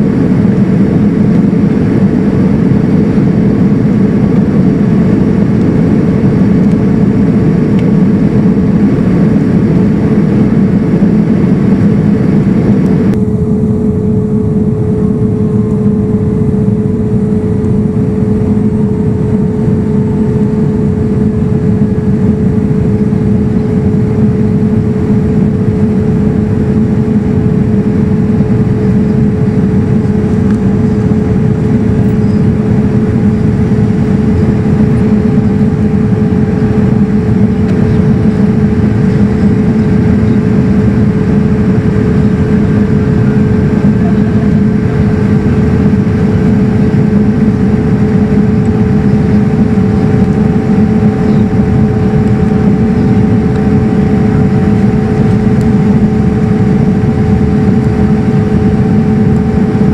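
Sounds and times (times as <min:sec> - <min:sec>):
airplane cabin air rush: 0:00.0 - 0:59.9
constant hum: 0:00.0 - 0:59.9
jet engine drone: 0:00.0 - 0:59.9.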